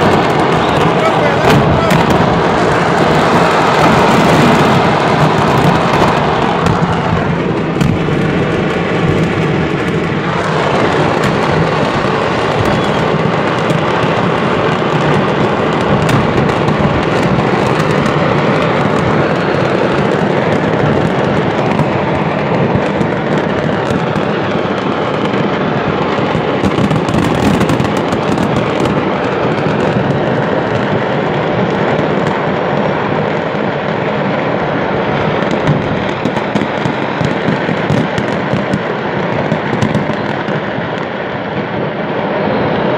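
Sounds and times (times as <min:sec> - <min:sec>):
fireworks exploding: 0:00.0 - 0:42.9.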